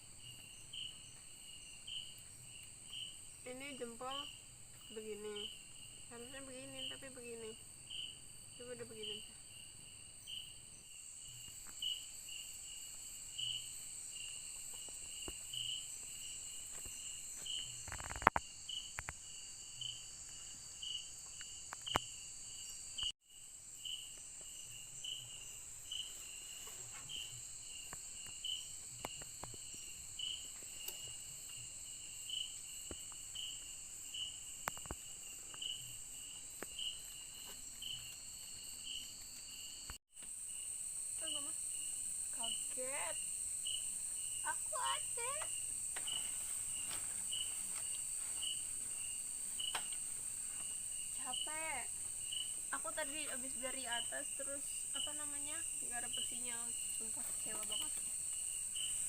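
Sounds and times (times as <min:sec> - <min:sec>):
rhythmic insect chirp: 0:00.0 - 0:59.0
high-pitched insect buzz: 0:10.2 - 0:59.0.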